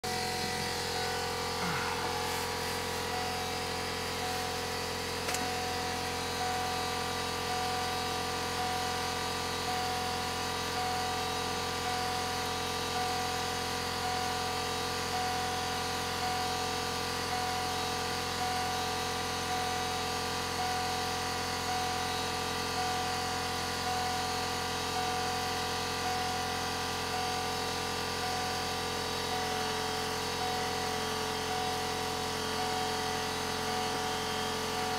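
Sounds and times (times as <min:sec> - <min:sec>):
electric motor hum and whine: 0:00.0 - 0:34.9
pulsing tone: 0:00.0 - 0:34.9.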